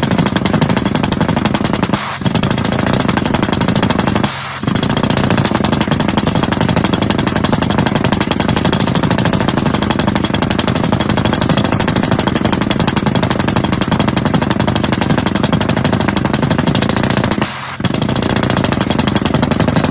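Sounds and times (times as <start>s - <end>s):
percussion drill hammering: 0.0s - 19.9s.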